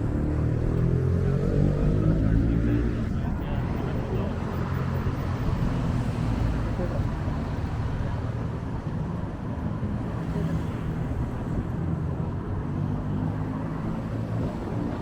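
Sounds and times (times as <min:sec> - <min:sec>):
wind rumbling on microphone: 0:00.0 - 0:13.1
city street noise: 0:00.0 - 0:15.0.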